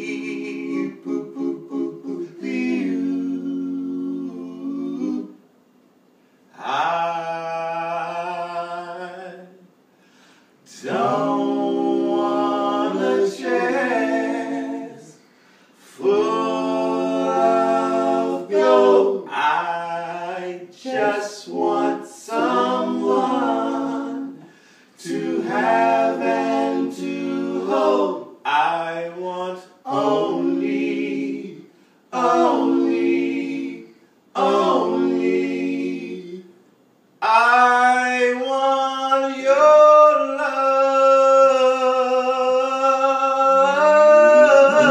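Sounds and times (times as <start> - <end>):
men singing a cappella: 0.0 - 5.4, 6.5 - 9.7, 10.6 - 36.6, 37.2 - 44.9.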